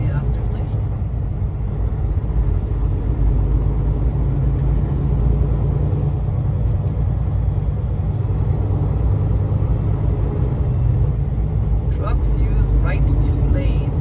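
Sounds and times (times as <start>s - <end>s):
road noise inside cab: 0.0s - 14.0s
truck diesel engine rumble: 0.0s - 14.0s.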